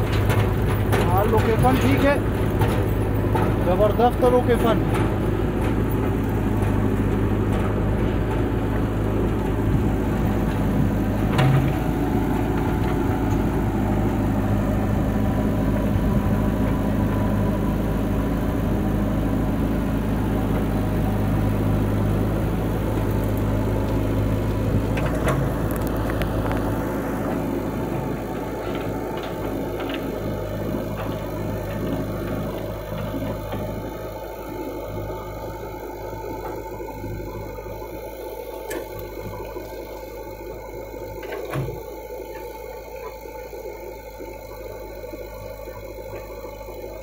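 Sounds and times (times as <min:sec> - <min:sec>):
diesel engines running: 0:00.0 - 0:47.0.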